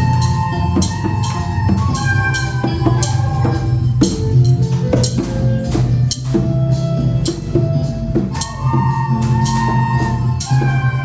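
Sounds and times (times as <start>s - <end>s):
music with drums and percussion: 0.0s - 11.0s.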